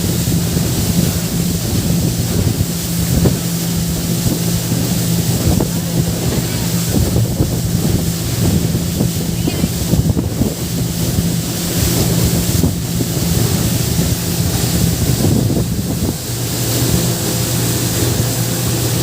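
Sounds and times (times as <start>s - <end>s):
boat engine running: 0.0s - 19.0s
water rushing past: 0.0s - 19.0s
wind buffeting microphone: 0.0s - 19.0s.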